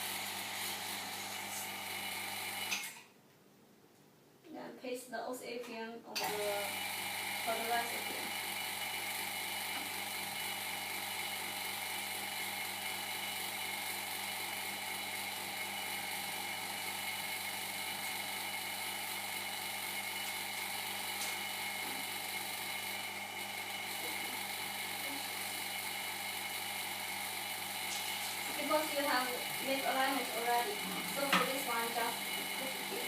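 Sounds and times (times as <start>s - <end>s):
vacuum pump humming: 0.0s - 3.0s, 6.2s - 33.0s.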